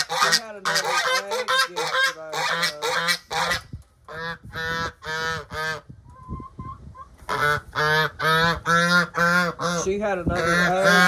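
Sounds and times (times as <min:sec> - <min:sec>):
geese honking: 0:00.0 - 0:05.8, 0:07.3 - 0:11.0.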